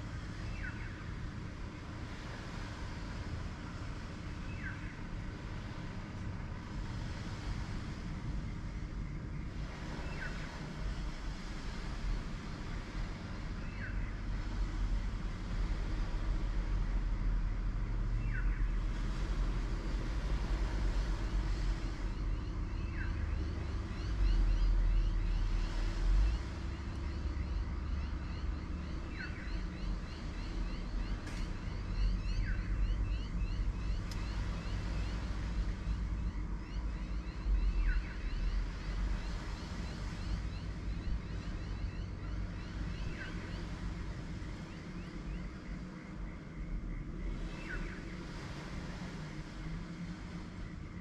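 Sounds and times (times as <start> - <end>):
constant hum: 0.0 - 51.0.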